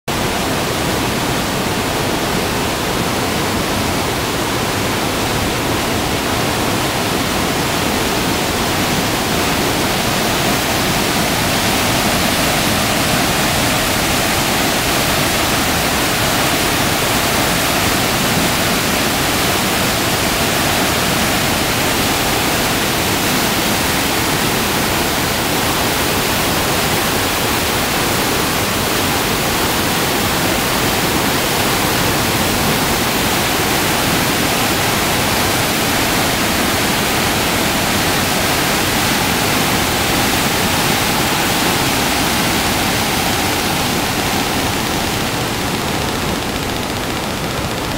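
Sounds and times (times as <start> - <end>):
river rushing: 0.1 - 47.9.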